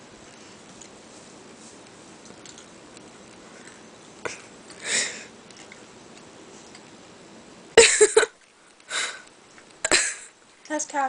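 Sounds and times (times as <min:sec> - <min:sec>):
faint room noise: 0:00.0 - 0:11.0.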